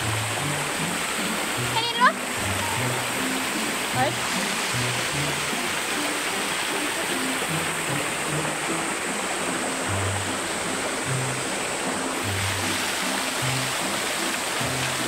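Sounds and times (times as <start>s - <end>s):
background music of low notes: 0.0s - 15.0s
water rushing over rocks: 0.0s - 15.0s.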